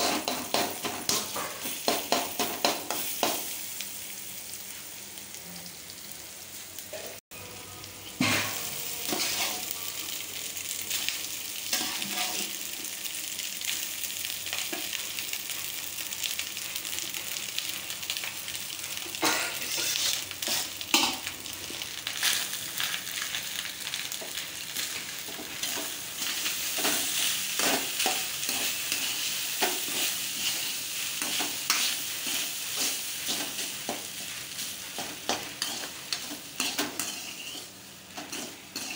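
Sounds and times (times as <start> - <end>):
onions sizzling in hot oil: 0.0 - 38.9.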